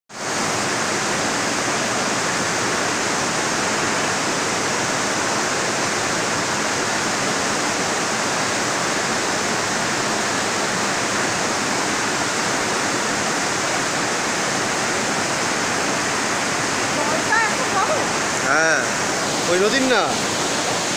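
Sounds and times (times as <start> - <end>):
river rushing over boulders: 0.1 - 20.9.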